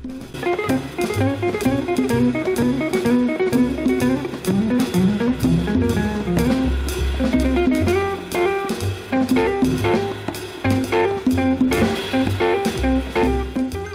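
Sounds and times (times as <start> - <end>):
drum kit: 0.0 - 13.9
guitar: 0.0 - 13.9
walking bass line: 0.0 - 13.9.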